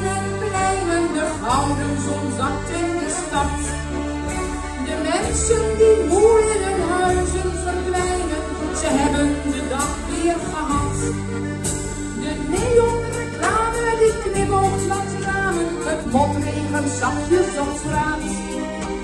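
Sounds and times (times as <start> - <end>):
woman singing into microphone: 0.0 - 4.0, 4.8 - 11.3, 12.2 - 18.7
accordion: 0.0 - 19.0
drums steady beat: 0.0 - 19.0.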